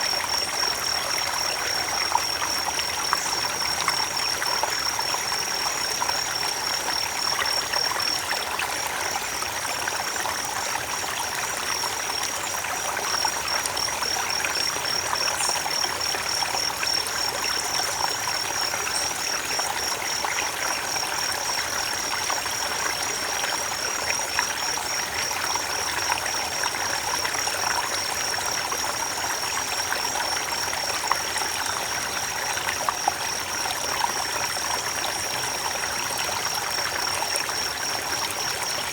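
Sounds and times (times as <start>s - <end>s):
creek water trickling: 0.0s - 38.9s.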